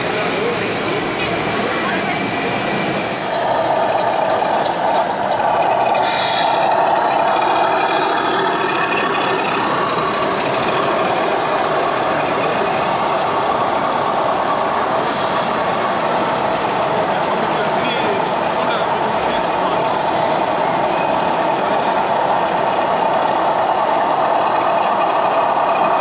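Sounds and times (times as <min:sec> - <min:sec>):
model truck mechanical drone: 0:00.0 - 0:26.0.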